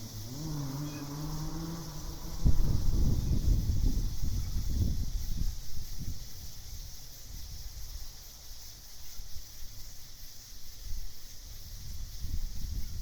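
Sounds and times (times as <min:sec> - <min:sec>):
low wind rumble: 0:00.0 - 0:08.3, 0:10.6 - 0:13.0
night insects chorus: 0:00.0 - 0:13.0.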